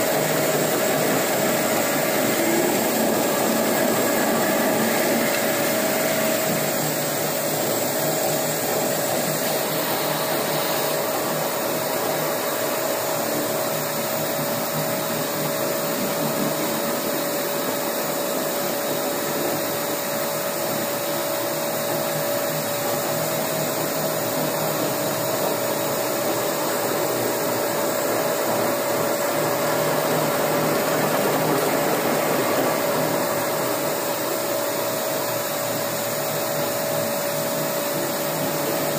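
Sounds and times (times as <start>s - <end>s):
floor grinder whirring: 0.0s - 38.9s.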